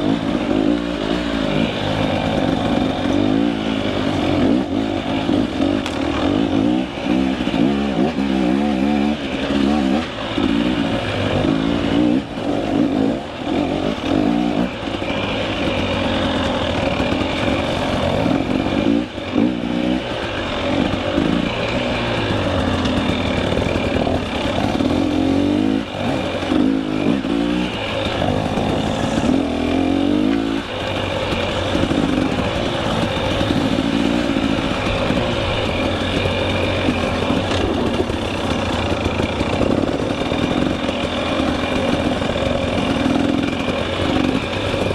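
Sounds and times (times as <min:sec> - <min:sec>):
two-stroke motorcycle engine revving: 0:00.0 - 0:44.9.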